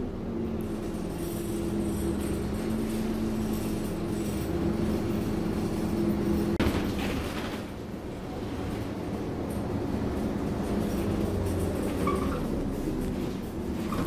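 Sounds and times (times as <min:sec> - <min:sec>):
bus engine and drivetrain hum: 0:00.0 - 0:14.0.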